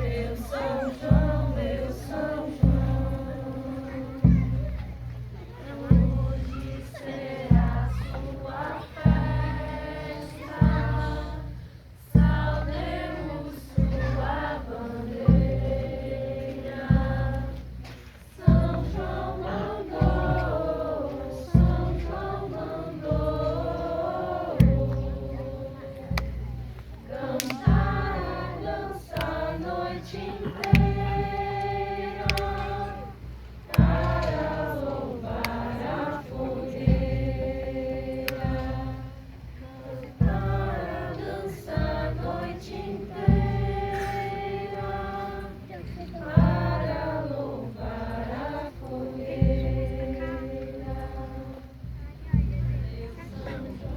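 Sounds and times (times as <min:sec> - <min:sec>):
deep drum beat: 0:00.0 - 0:53.9
group of voices singing: 0:00.0 - 0:53.9.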